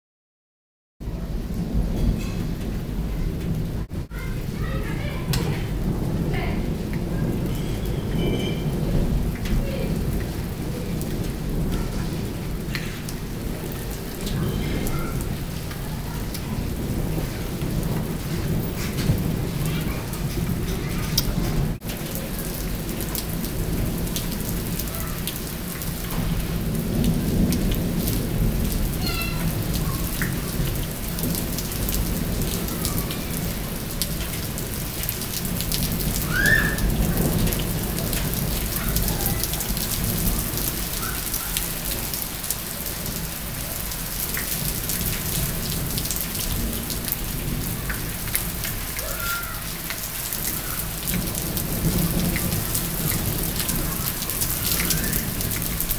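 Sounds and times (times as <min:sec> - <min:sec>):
heavy rain spattering: 0:01.0 - 0:55.9
low rumble of thunder: 0:01.0 - 0:55.9.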